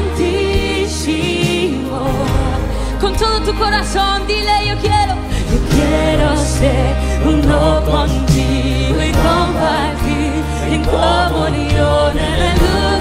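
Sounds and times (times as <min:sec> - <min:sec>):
instrumental accompaniment: 0:00.0 - 0:13.0
person singing worship song: 0:00.0 - 0:13.0
sustained low bass notes: 0:00.0 - 0:13.0.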